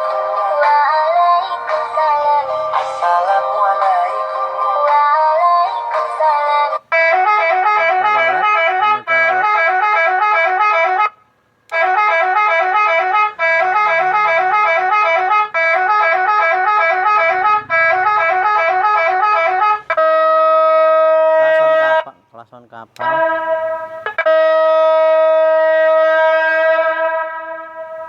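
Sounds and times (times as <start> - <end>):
electronic horn playing a tune: 0.0 - 22.1, 23.0 - 28.0.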